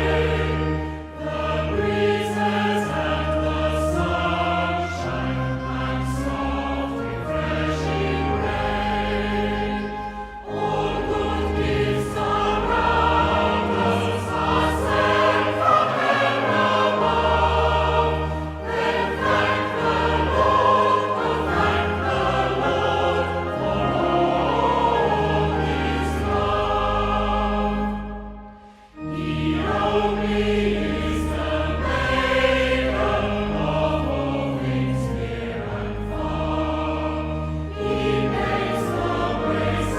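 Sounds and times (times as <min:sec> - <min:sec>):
choir singing a hymn: 0:00.0 - 0:39.9
sustained accompaniment: 0:00.0 - 0:39.9.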